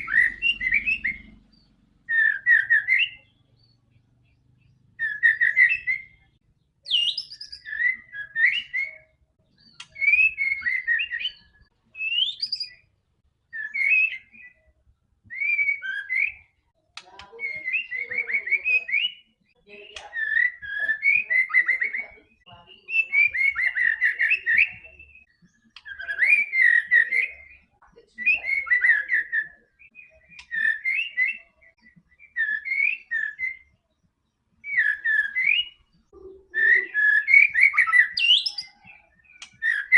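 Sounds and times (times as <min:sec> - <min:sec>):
bird singing whistled phrases: 0:00.0 - 0:03.7, 0:05.0 - 0:12.9, 0:13.5 - 0:16.6, 0:17.2 - 0:33.9, 0:34.6 - 0:39.9.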